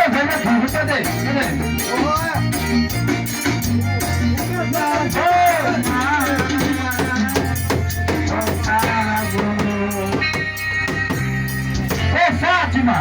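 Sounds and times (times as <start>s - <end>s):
drums beating: 0.0s - 12.4s
held bass notes: 0.0s - 13.0s
wavering melody line: 0.0s - 13.0s.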